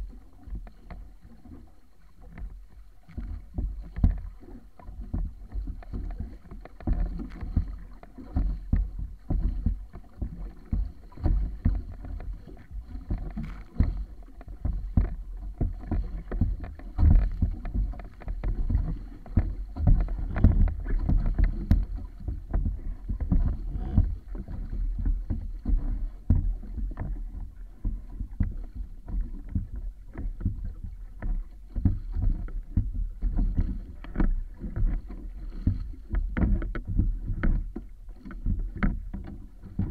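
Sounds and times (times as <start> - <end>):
water slapping wooden hull: 0.0 - 39.9.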